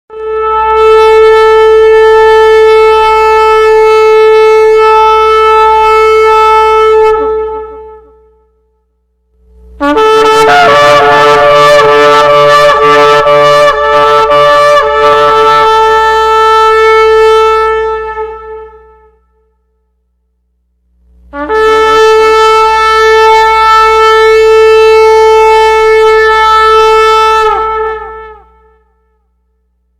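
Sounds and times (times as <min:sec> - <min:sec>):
shofar blasts: 0:00.1 - 0:08.5, 0:09.8 - 0:19.5, 0:21.3 - 0:29.3.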